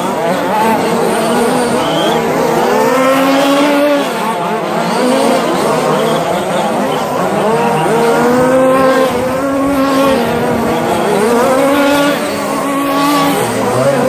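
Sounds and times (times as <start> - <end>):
rc truck motors whining: 0.0 - 14.0.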